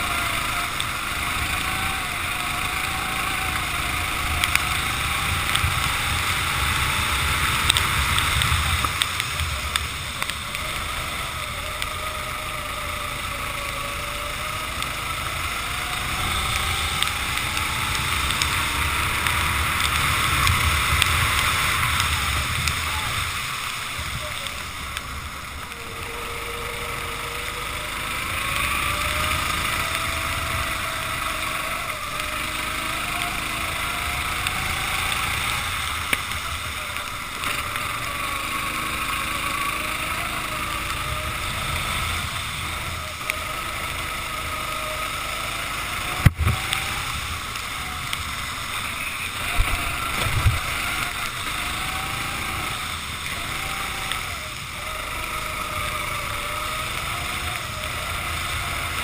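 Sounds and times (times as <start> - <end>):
kart engine revving: 0.0 - 59.0
wind and wet spray hiss: 0.0 - 59.0.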